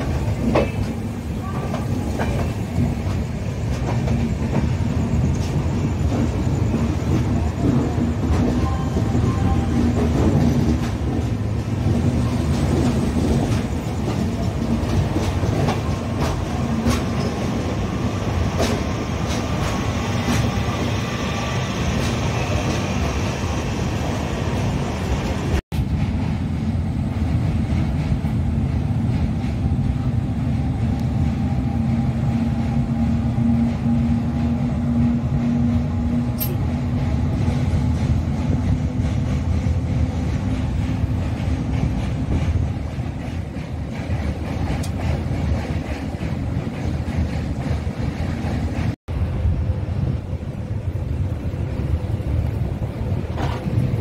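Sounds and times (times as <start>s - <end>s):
train rumble and hum: 0.0s - 54.0s.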